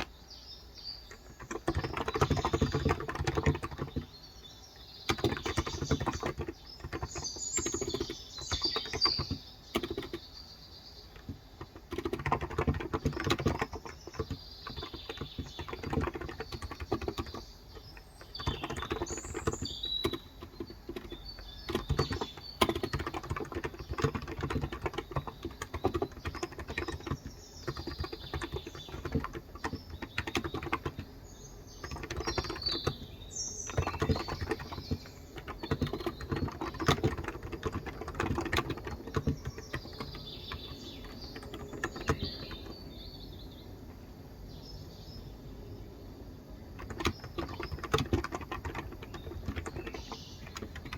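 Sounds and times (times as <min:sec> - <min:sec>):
soft muffled keyboard typing: 0:00.0 - 0:00.2, 0:01.0 - 0:43.0, 0:46.5 - 0:50.9
birds chirping: 0:00.0 - 0:50.9.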